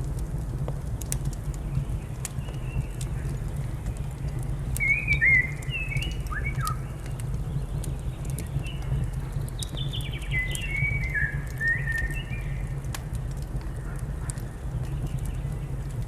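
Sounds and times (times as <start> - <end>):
sharp crackles: 0.0 - 16.0
steady low rumble: 0.0 - 16.0
birds singing and chirping: 1.5 - 12.9, 13.6 - 16.0.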